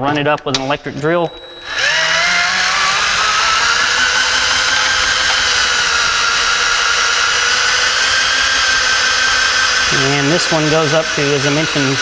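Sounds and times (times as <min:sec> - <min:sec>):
cordless drill whining: 0:01.3 - 0:12.0.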